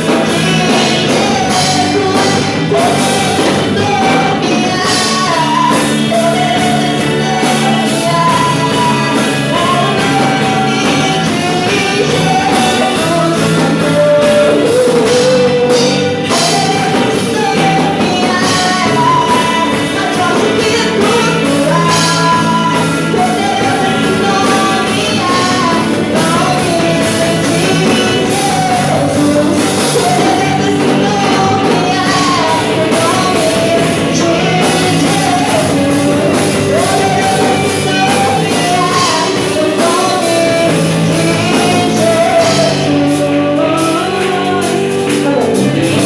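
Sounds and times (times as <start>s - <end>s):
person singing lead vocal: 0.0s - 46.0s
worship band playing: 0.0s - 46.0s.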